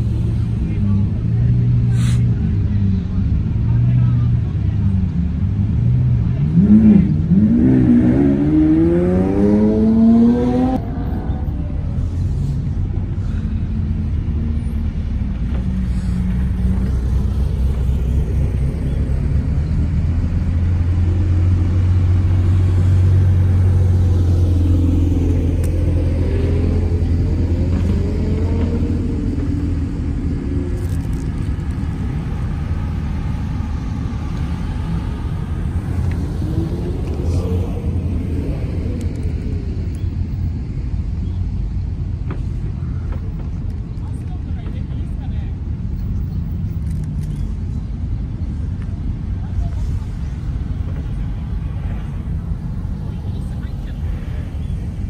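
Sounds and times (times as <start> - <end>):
sports car engines rumbling: 0.0 - 55.0.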